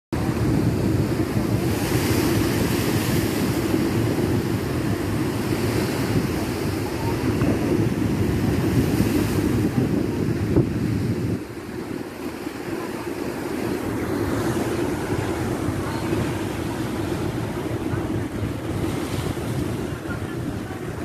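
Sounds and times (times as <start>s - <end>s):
wind rumbling on microphone: 0.2s - 21.0s.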